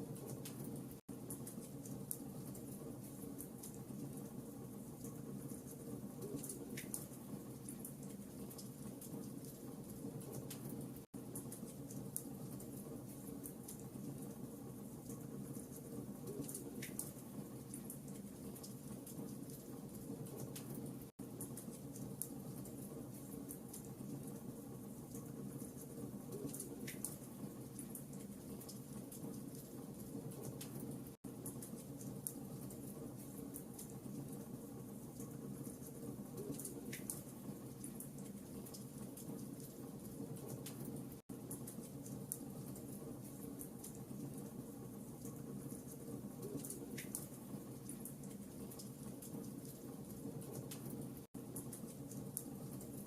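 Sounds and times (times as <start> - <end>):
low rumble of flames: 0.0 - 53.0
fire crackling and popping: 0.1 - 53.0.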